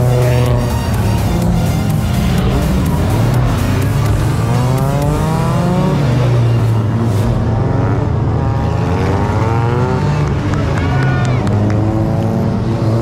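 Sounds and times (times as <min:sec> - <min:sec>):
low drone of engines: 0:00.0 - 0:13.0
race cars revving past: 0:00.0 - 0:13.0.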